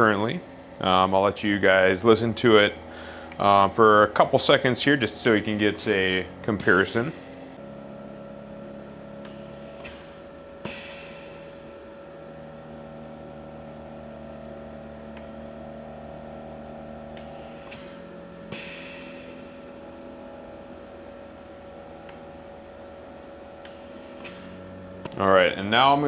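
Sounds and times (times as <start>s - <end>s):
compressor hum: 0.0s - 26.0s.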